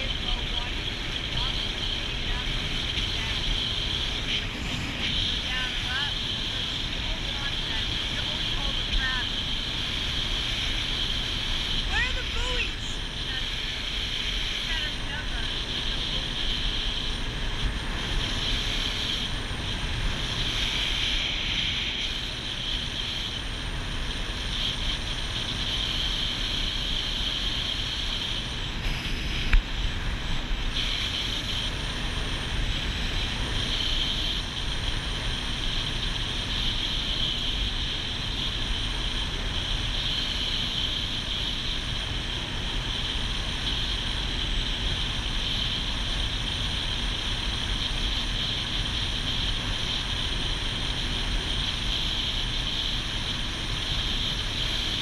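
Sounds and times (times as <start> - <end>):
motorboat engine running: 0.0 - 55.0
rush of wind and water: 0.0 - 55.0.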